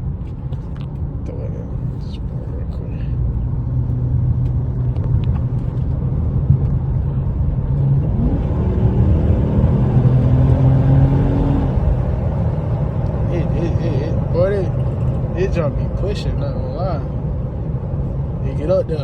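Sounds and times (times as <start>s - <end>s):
car engine heard from inside: 0.0s - 19.0s.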